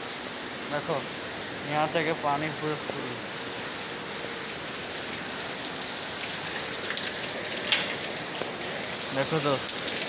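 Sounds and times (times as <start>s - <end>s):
rain falling on flooded ground: 0.0s - 10.0s.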